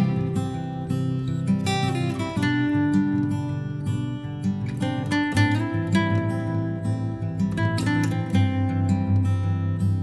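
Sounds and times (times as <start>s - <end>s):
acoustic guitar chords: 0.0s - 10.0s.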